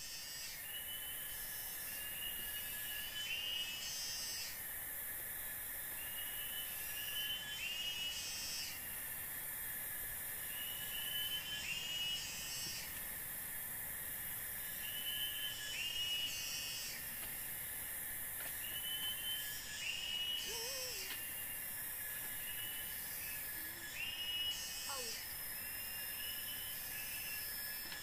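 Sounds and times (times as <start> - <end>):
constant thin tone: 0.0 - 28.0
high drone of insects: 0.0 - 28.0.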